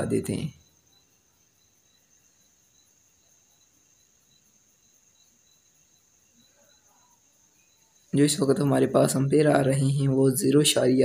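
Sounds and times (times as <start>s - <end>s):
faint high pulsing chirr: 0.0s - 11.0s.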